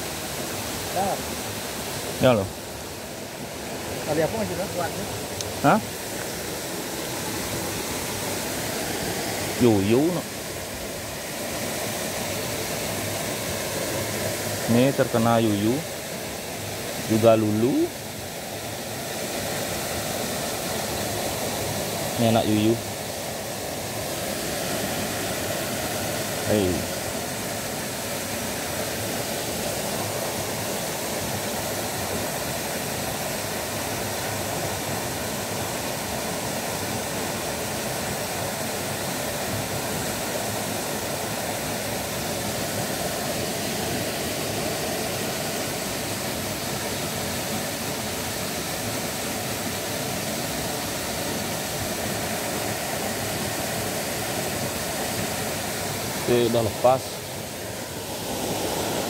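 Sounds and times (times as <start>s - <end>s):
waterfall rushing into pond: 0.0s - 59.0s.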